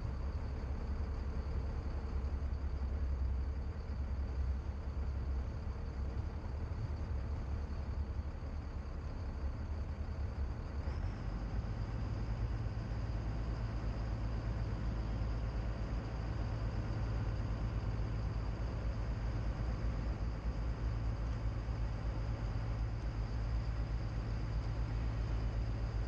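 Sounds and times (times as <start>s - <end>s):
boat engines droning: 0.0s - 26.0s
faint high whine: 0.0s - 26.0s.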